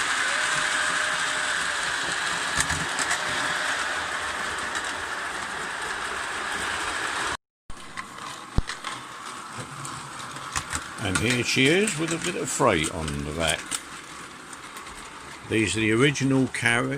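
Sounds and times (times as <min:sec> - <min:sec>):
model train whirring hum: 0:00.0 - 0:16.9.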